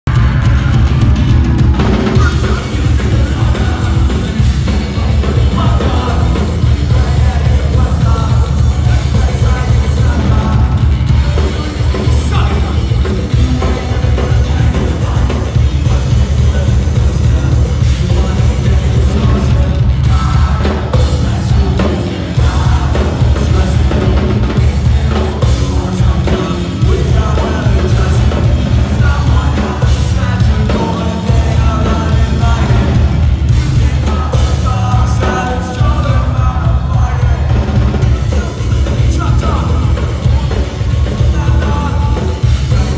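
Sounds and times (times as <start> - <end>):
drums: 0.0 - 42.9
electric guitar: 0.0 - 42.9
heavy bass: 0.0 - 42.9
person singing: 0.0 - 42.9.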